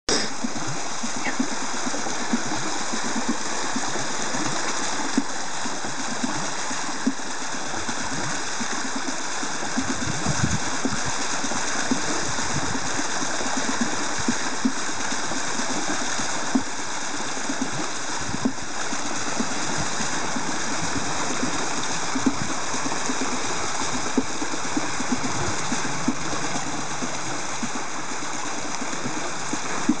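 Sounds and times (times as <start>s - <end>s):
water pouring onto water wheel: 0.1s - 30.0s
water splashing: 0.1s - 30.0s.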